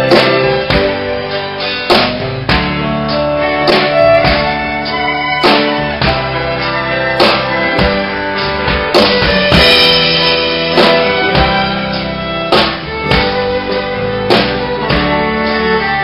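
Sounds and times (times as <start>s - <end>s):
drum kit: 0.0s - 16.0s
fiddle: 0.0s - 16.0s
guitar: 0.0s - 16.0s.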